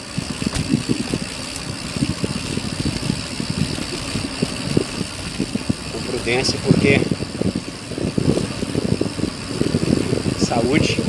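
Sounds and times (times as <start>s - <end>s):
bike clattering over stones: 0.0s - 11.0s.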